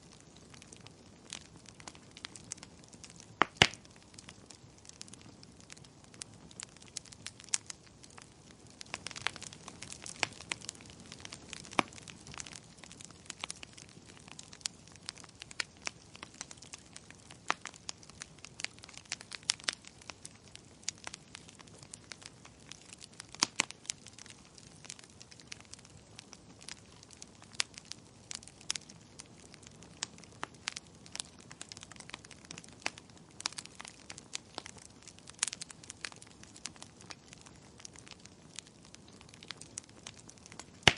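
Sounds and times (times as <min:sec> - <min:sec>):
fire crackling in fireplace: 0:00.0 - 0:40.9
sharp pops of burning wood: 0:00.0 - 0:40.9.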